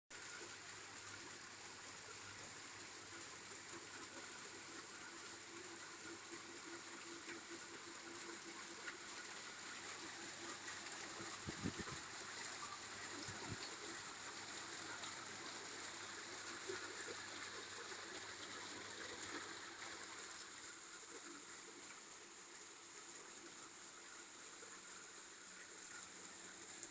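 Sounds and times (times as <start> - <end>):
water trickling and splashing: 0.1 - 26.9.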